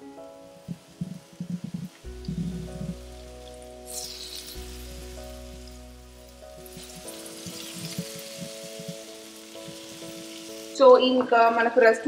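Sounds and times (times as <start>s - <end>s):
background music of held notes: 0.0s - 12.0s
fish sizzling in a pan: 0.6s - 11.3s.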